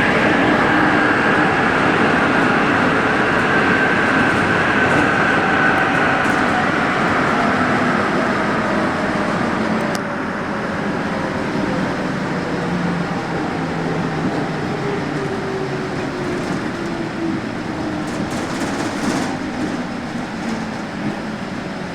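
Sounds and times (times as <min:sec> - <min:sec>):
metro train rumbling past: 0:00.0 - 0:21.9
train motor whine: 0:00.0 - 0:21.9.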